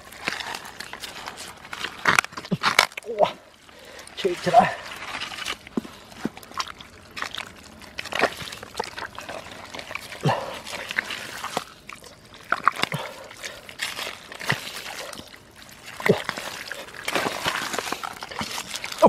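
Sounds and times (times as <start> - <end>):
hands squelching through wet mud: 0.0 - 19.0
muddy water sloshing: 0.0 - 19.0.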